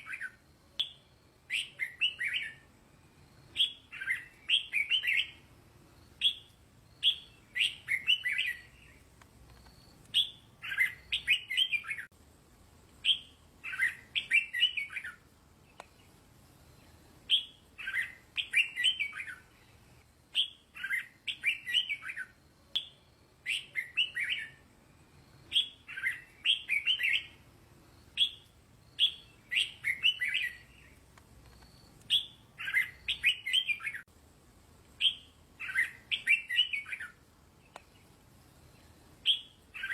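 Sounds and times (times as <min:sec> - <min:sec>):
bird singing warbled phrases: 0:00.0 - 0:02.7, 0:03.4 - 0:12.1, 0:13.0 - 0:31.1, 0:32.0 - 0:34.1, 0:34.9 - 0:39.9.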